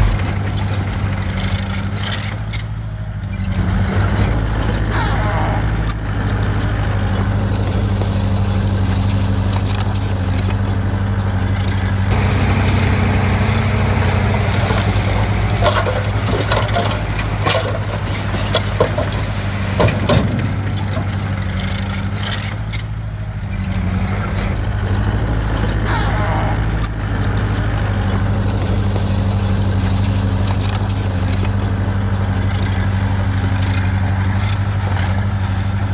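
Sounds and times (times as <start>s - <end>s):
bulldozer diesel engine running: 0.0s - 35.9s
metallic clanking and rattling: 0.0s - 35.9s.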